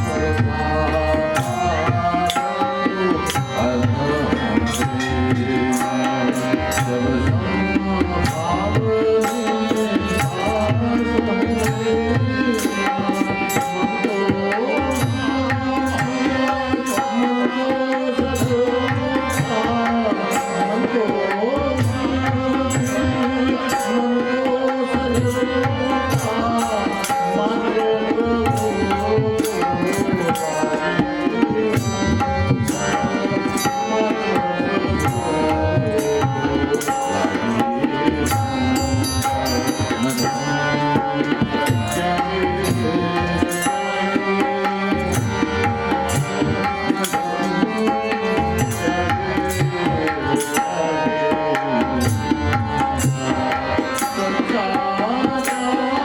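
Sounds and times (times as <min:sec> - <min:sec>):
devotional song with drum: 0:00.0 - 0:56.0.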